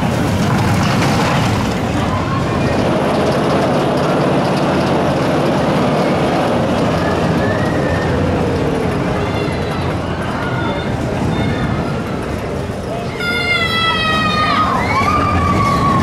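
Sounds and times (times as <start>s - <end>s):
roller coaster rumbling on track: 0.0s - 16.0s.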